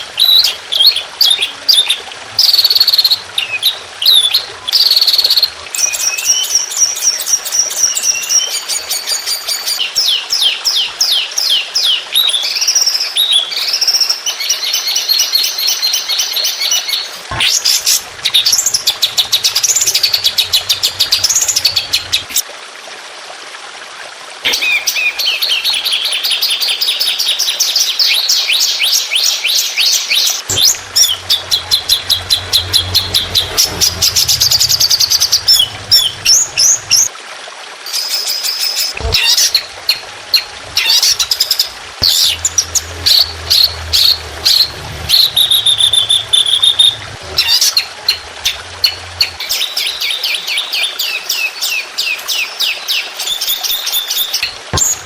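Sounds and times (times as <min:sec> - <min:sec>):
songbird singing: 0:00.0 - 0:22.4, 0:24.5 - 0:37.1, 0:37.9 - 0:55.0.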